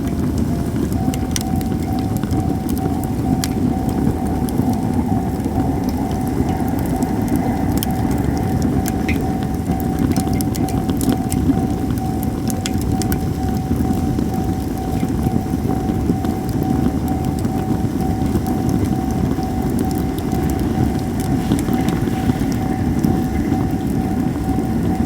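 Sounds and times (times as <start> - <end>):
faint steady pitched tone: 0.0 - 25.0
wood fire crackling and popping: 0.0 - 25.0.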